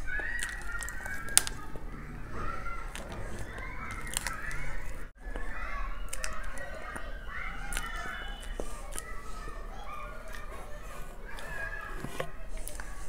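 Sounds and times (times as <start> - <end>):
distant voices: 0.0 - 13.0
spoon and eating sounds: 0.0 - 13.0.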